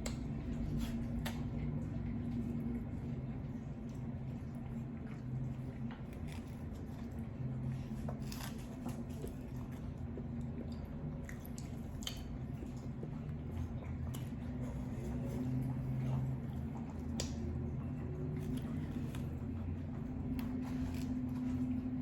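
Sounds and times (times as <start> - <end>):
person chewing noodles: 0.0 - 22.0.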